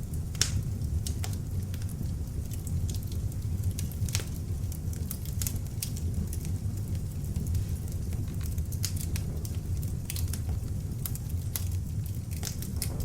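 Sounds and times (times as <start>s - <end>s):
fire crackling and popping: 0.0s - 13.0s
low rumble of flame: 0.0s - 13.0s.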